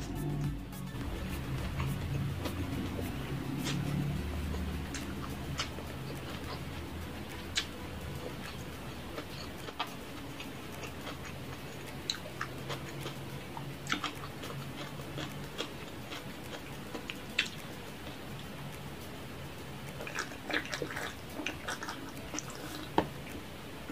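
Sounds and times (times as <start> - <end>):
steady low hum: 0.0 - 23.9
chewing clicks and smacks: 1.3 - 18.8, 19.7 - 23.0.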